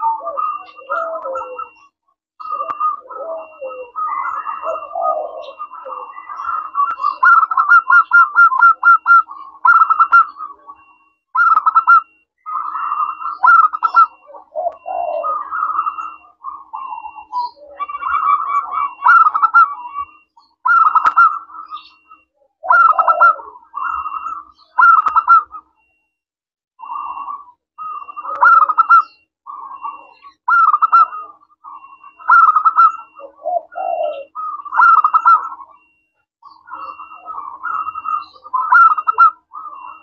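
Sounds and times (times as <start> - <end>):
dove cooing: 0.0 - 26.0, 26.8 - 40.0.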